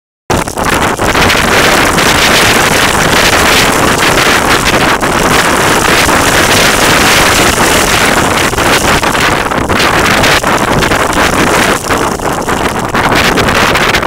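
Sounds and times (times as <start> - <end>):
wind buffeting microphone: 0.3 - 14.0.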